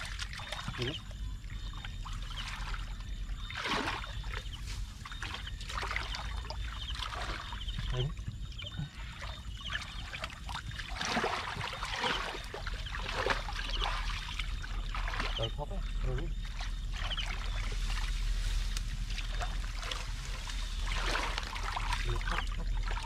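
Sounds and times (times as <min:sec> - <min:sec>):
steady low hum: 0:00.0 - 0:23.0
water splashing and sloshing: 0:00.0 - 0:23.0.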